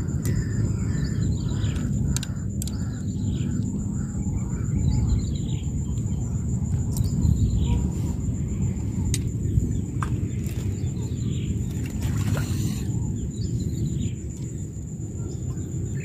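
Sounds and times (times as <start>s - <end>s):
high-pitched insect trill: 0.0s - 16.0s
small birds chirping: 0.0s - 16.0s.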